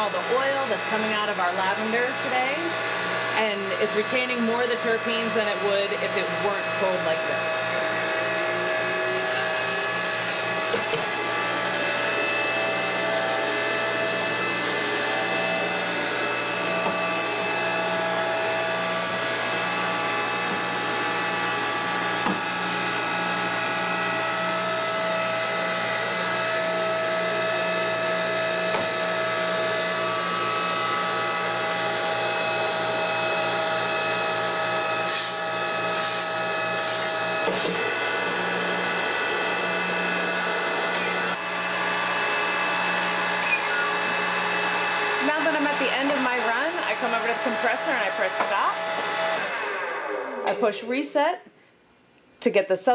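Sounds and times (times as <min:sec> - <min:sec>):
compressor whining and pulsing: 0:00.0 - 0:50.8.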